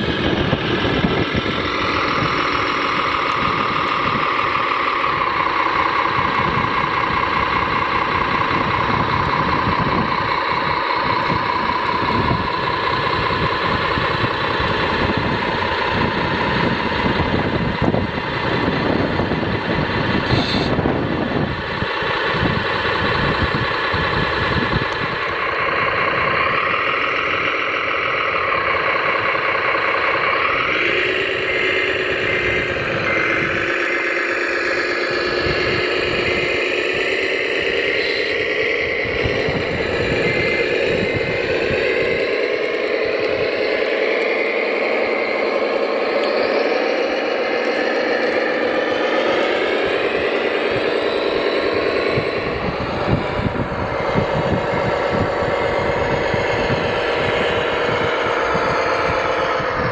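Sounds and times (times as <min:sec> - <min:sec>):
mechanical rumble: 0:00.0 - 0:59.9
toy vehicle motors whining: 0:00.0 - 0:59.9.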